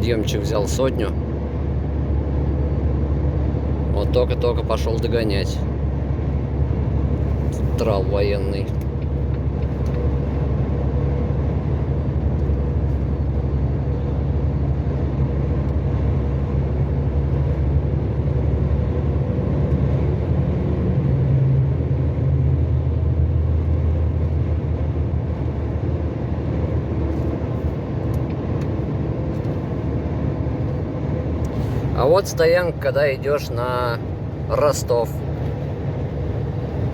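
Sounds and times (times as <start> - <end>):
road noise inside cab: 0.0 - 36.9
truck diesel engine droning: 0.0 - 36.9.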